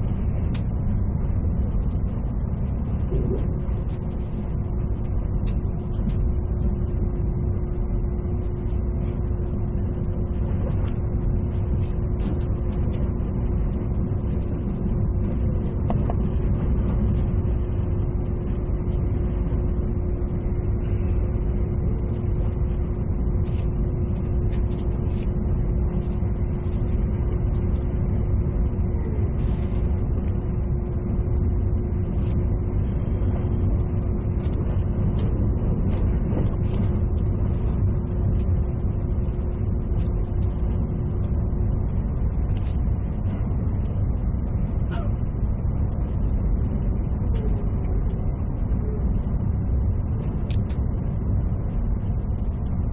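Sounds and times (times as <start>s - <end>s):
thin steady hum: 0.0s - 52.9s
train wheels rumbling on rail: 0.0s - 52.9s.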